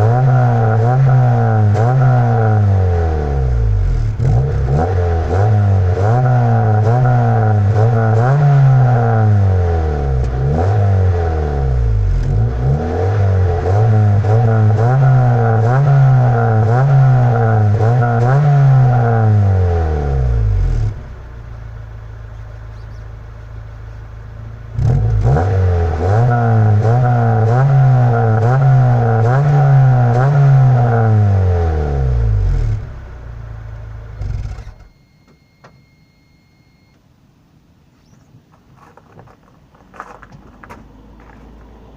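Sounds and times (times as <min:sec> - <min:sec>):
car engine revving and idling: 0:00.0 - 0:35.0, 0:39.7 - 0:41.9.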